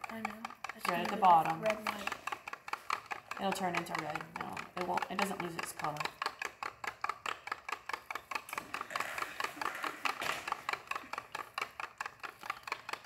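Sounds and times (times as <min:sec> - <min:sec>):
stick knocking plastic cup: 0:00.0 - 0:13.0.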